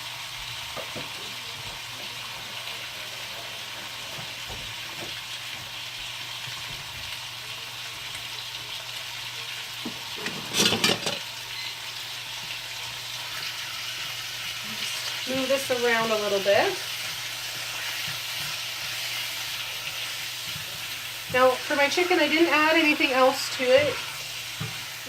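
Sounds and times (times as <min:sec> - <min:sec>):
chicken sizzling in a wok: 0:00.0 - 0:25.0.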